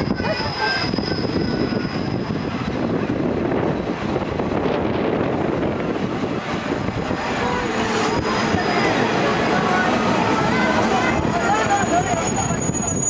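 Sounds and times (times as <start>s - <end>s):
diesel train engine drone: 0.0s - 13.0s
train wheels on rails: 0.0s - 13.0s.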